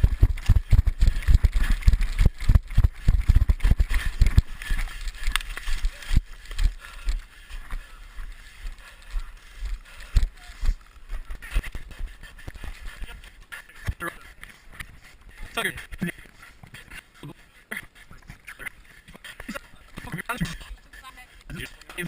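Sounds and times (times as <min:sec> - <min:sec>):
footsteps and gear rattling: 0:00.0 - 0:22.0.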